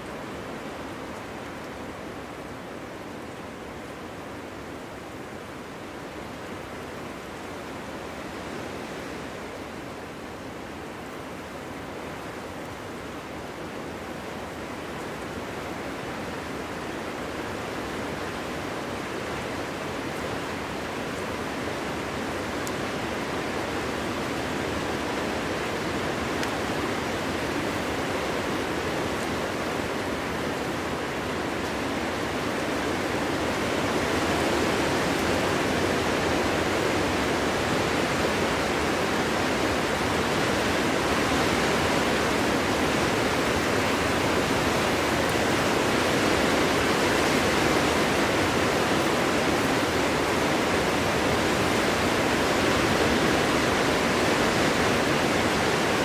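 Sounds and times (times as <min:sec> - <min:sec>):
strong wind through forest: 0:00.0 - 0:56.0.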